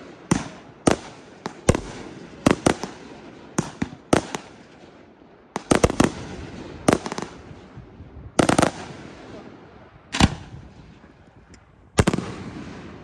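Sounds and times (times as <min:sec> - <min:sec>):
fireworks bursting overhead: 0:00.0 - 0:13.0.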